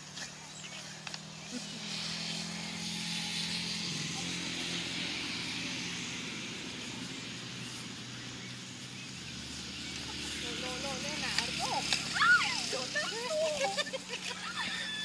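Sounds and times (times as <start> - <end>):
motorcycle engine running: 0.0 - 15.0
steady high hiss: 0.0 - 15.0.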